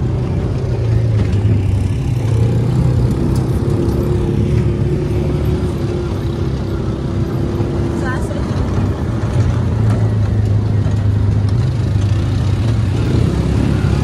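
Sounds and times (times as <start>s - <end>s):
utility vehicle engine droning: 0.0s - 14.0s.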